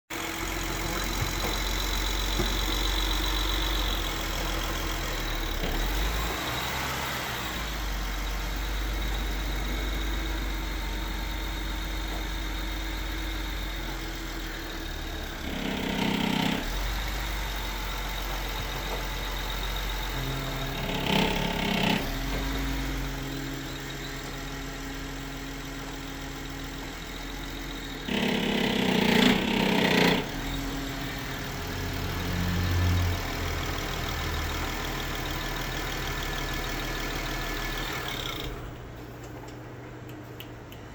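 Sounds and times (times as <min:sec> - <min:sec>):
car engine at low rpm: 0:00.1 - 0:40.9
engine rattle under load: 0:00.1 - 0:40.9.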